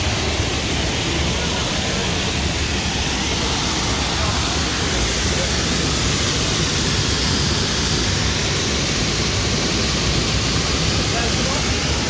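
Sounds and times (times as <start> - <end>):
waterfall roar: 0.0 - 12.0.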